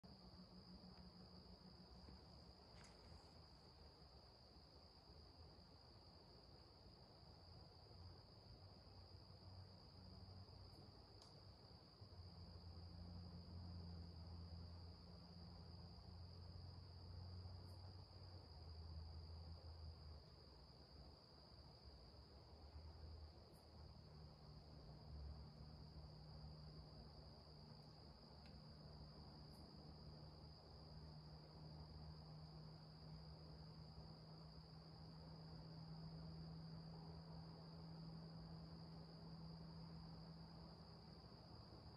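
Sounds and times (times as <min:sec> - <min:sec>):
crickets trilling: 0:00.1 - 0:41.9.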